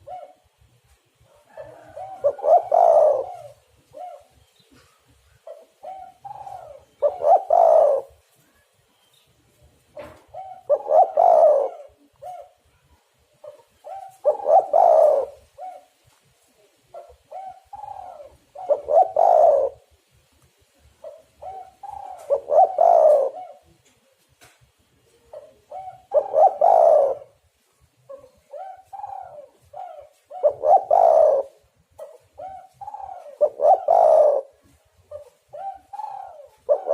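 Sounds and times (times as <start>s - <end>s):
dove cooing: 0.0s - 8.3s, 10.0s - 16.0s, 16.6s - 20.0s, 21.0s - 24.0s, 25.0s - 27.5s, 28.1s - 36.9s.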